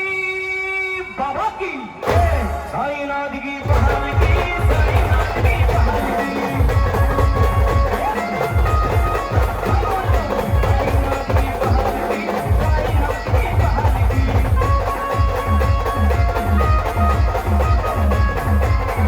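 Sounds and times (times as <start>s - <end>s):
fast drumming: 2.0s - 3.0s, 3.6s - 19.0s
brass band playing dance music: 2.0s - 19.0s.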